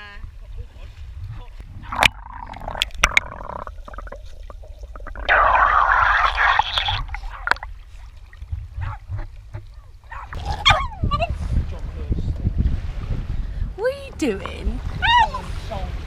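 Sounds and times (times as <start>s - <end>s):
wind rumble on microphone: 0.0s - 5.3s, 6.8s - 16.0s
rush of water: 0.7s - 16.0s.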